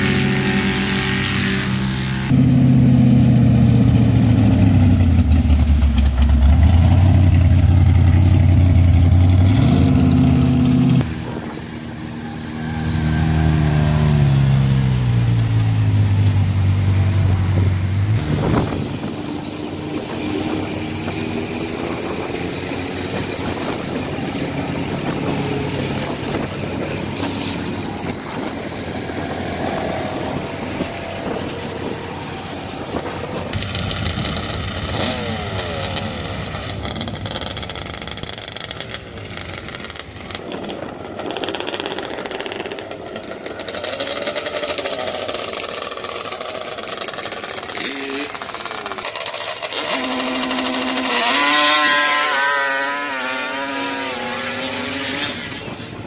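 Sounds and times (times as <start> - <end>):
loud vehicle engine revving: 0.0 - 56.0
vehicles idling and rolling: 0.0 - 56.0.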